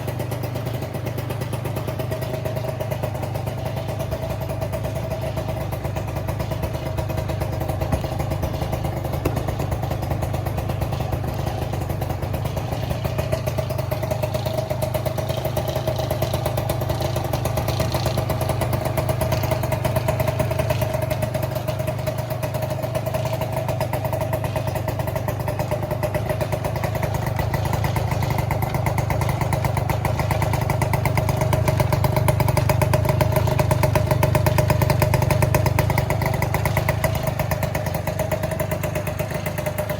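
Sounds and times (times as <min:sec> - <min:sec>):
scooter engine idling: 0:00.0 - 0:39.9.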